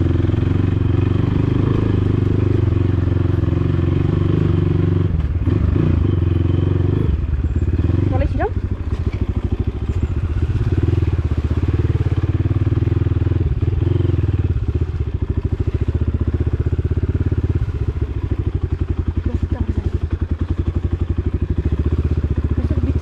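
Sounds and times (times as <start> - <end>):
dirt bike engine at low revs: 0.0 - 23.0.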